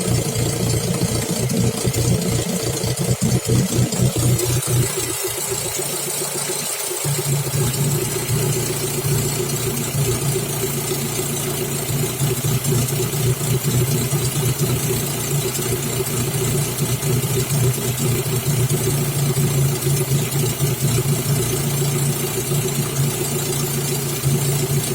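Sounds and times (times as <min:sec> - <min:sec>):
exhaust rumbling: 0:00.0 - 0:06.0, 0:07.1 - 0:24.9
car engine idling: 0:00.0 - 0:24.9.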